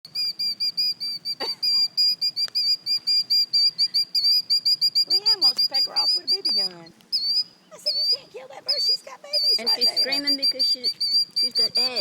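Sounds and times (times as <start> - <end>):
shrill bird alarm notes: 0.1 - 12.0.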